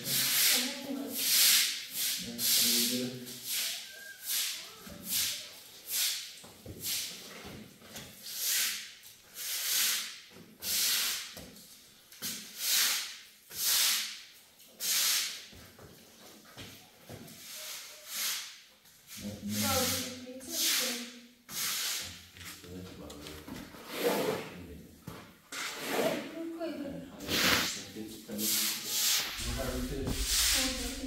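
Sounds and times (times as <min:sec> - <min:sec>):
floor tool swishing on wet concrete: 0:00.0 - 0:07.4, 0:08.1 - 0:15.8, 0:17.3 - 0:22.6, 0:23.8 - 0:24.6, 0:25.5 - 0:26.3, 0:27.2 - 0:27.8, 0:28.4 - 0:31.0.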